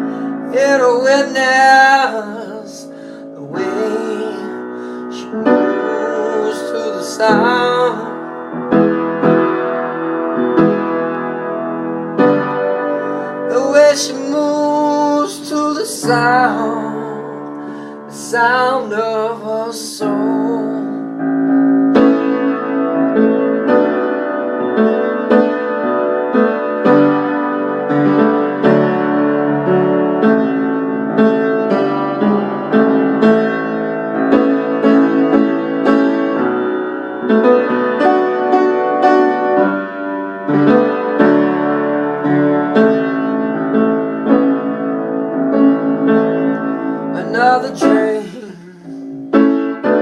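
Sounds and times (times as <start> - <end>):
piano playing chords: 0.0 - 50.0.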